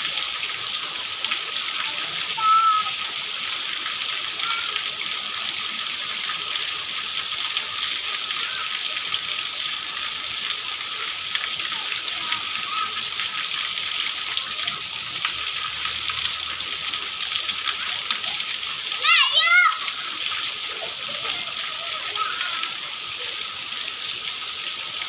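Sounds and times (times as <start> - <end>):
rain falling on wet street: 0.0 - 25.0.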